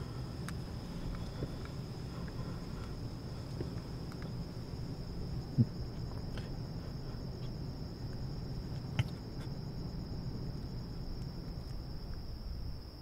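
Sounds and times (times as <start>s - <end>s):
crickets trilling: 0.0s - 13.0s
low background rumble: 0.0s - 13.0s.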